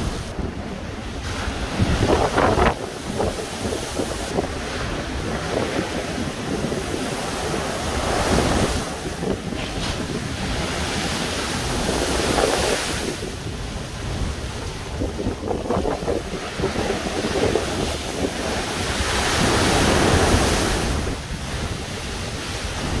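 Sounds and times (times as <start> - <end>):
waves crashing against a wall: 0.0 - 23.0
wind buffeting microphone: 0.0 - 23.0.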